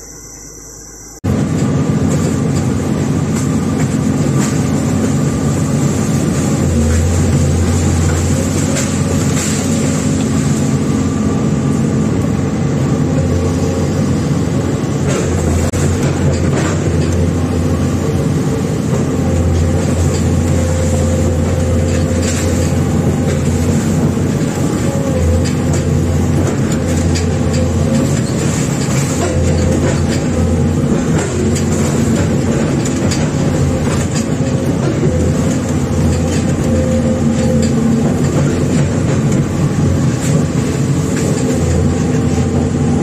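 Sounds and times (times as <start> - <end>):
excavator engine and hydraulics: 0.0 - 43.0.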